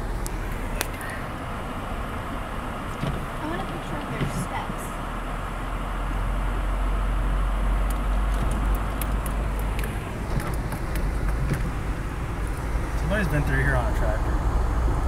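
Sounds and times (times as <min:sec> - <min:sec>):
tyres and engine rumbling: 0:00.0 - 0:15.0.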